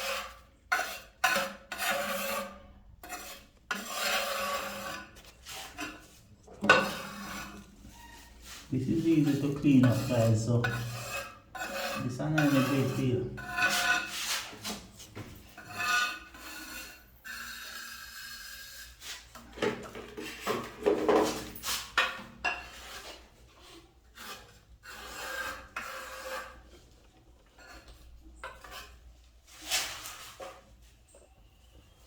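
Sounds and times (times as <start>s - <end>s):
scraping and rubbing cement: 0.0s - 19.4s, 22.5s - 26.9s, 27.6s - 30.7s.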